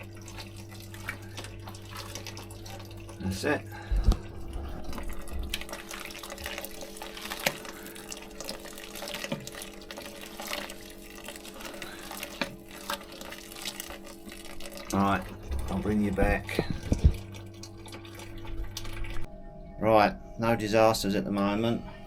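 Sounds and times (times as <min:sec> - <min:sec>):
liquid trickling and splashing: 0:00.0 - 0:19.3
small drips and ticks: 0:00.0 - 0:19.3
pump humming: 0:00.0 - 0:22.0.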